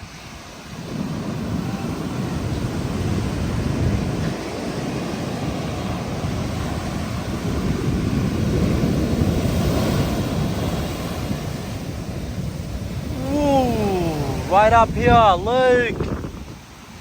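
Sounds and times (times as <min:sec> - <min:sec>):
ocean waves breaking: 0:00.0 - 0:17.0
wind buffeting microphone: 0:00.0 - 0:17.0.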